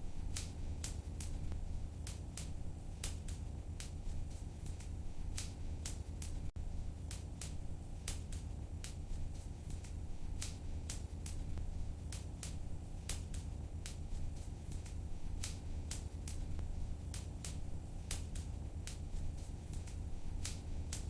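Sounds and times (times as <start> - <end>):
low rumble of flame: 0.0 - 21.0
wood fire crackling: 0.0 - 21.0.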